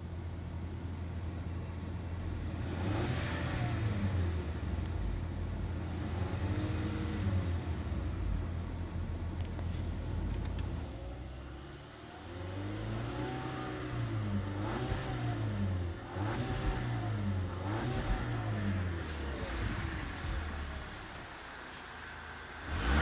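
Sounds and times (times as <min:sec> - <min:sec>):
car engine revving: 0:02.2 - 0:09.0, 0:10.4 - 0:23.0.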